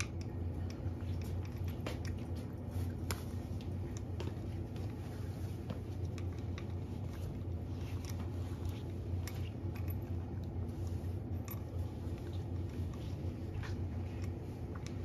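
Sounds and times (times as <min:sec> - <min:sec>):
cat chewing from bowl: 0:00.0 - 0:15.0
steady low hum: 0:00.0 - 0:15.0.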